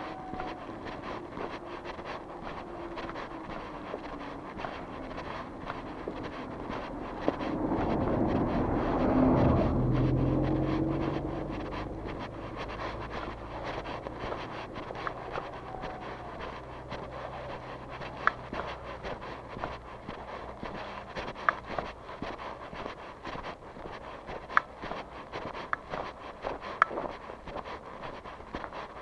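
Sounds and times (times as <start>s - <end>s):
passing vehicle engine: 0.0s - 28.7s
footsteps clicking: 0.0s - 29.0s.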